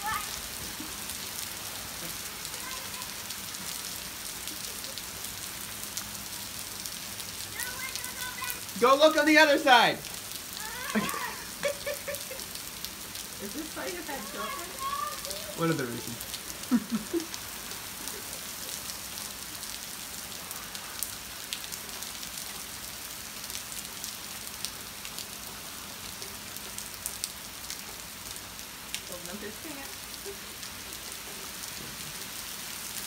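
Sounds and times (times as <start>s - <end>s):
heavy rain pouring: 0.0s - 33.0s
raindrops ticking near microphone: 0.0s - 33.0s.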